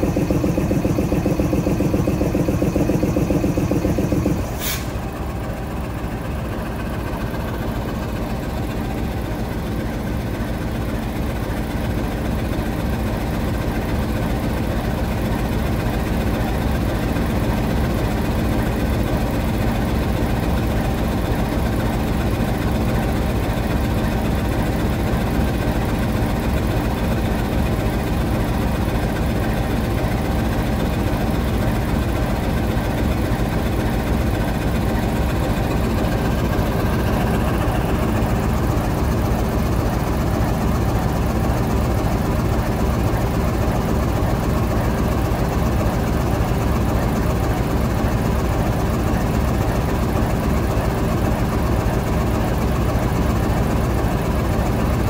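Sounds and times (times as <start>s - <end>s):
locomotive diesel engine running: 0.0s - 55.0s.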